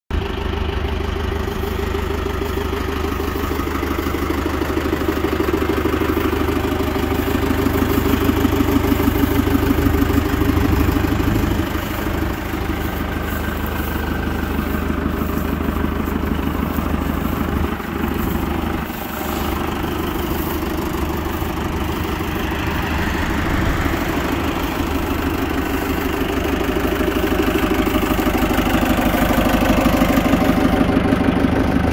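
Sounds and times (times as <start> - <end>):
tractor engine idling: 0.1 - 31.9.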